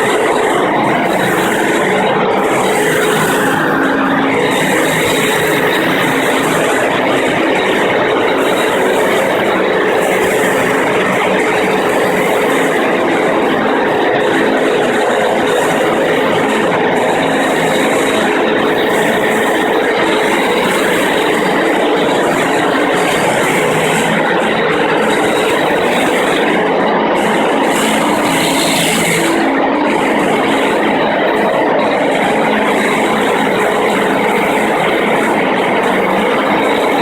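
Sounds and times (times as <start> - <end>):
floor grinder grinding concrete: 0.0 - 37.0
motor hum: 0.0 - 37.0.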